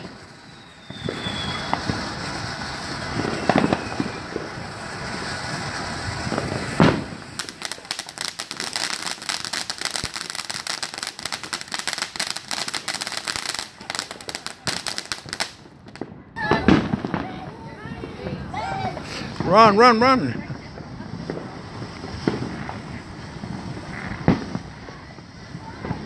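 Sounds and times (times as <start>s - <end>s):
loud firework pops: 0.0s - 19.5s, 20.5s - 26.0s
firework fountain hissing: 0.0s - 26.0s
rapid firework crackling: 0.0s - 26.0s.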